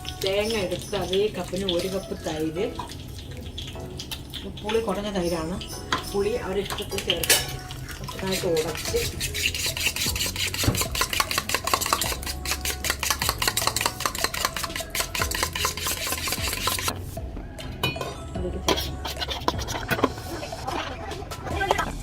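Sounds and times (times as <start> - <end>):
spoon stirring in a vessel: 0.0 - 17.0, 17.8 - 21.4.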